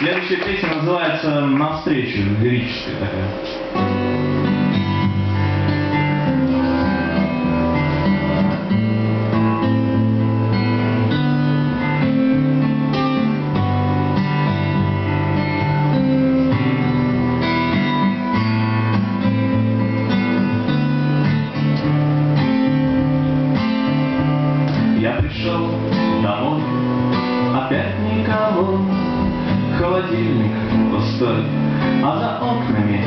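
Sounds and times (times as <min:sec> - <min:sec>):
acoustic guitars strumming chords: 0:00.0 - 0:33.0.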